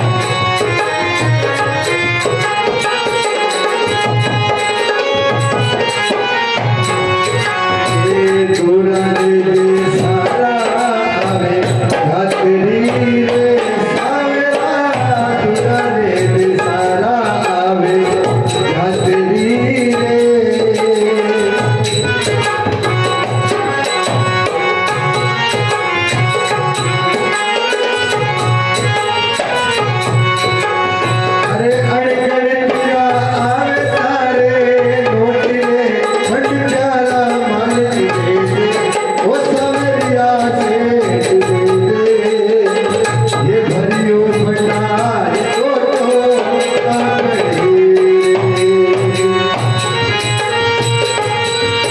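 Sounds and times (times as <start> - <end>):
repeating drum rhythm: 0.0 - 51.9.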